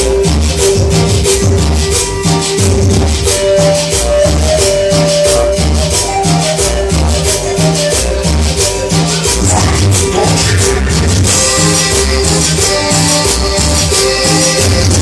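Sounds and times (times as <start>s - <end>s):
loud cumbia music: 0.0s - 15.0s.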